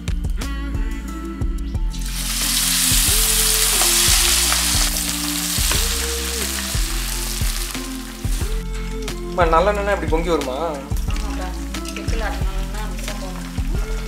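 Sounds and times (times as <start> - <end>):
oil sizzling while deep-frying: 1.9 - 14.0.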